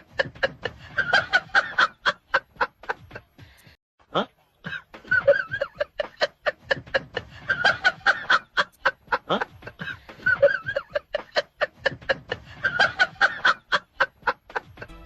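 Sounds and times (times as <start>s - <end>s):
comic staccato laughter: 0.0s - 3.4s, 4.1s - 15.0s.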